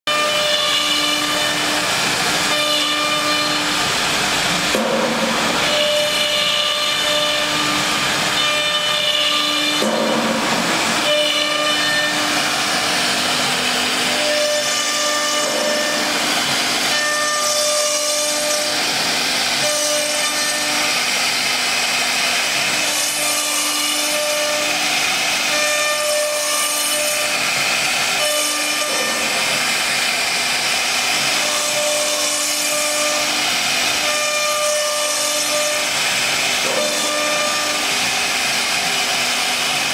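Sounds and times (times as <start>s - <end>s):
router cutting wood: 0.1s - 39.9s.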